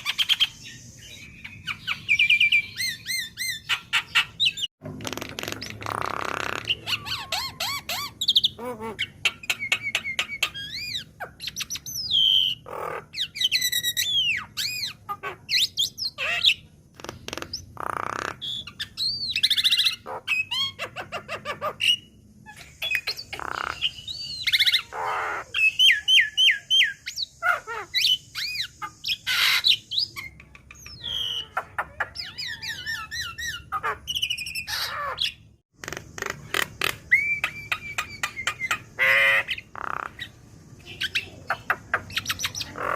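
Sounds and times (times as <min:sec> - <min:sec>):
bird chattering and singing: 0:00.0 - 0:42.9.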